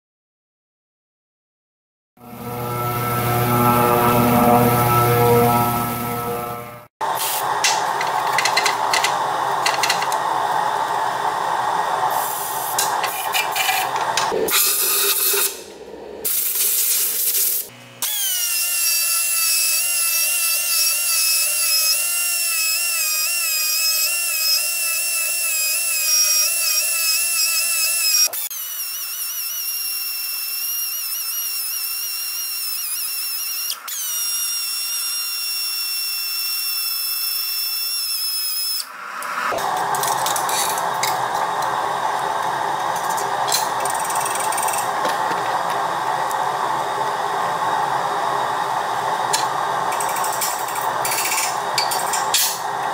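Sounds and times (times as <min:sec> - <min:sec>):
die grinder whining: 0:02.4 - 0:16.4, 0:17.5 - 0:52.9.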